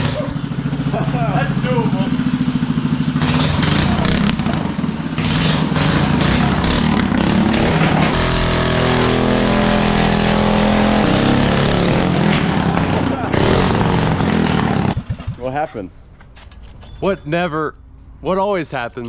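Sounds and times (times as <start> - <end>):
minibike engine running hard: 0.0 - 15.5.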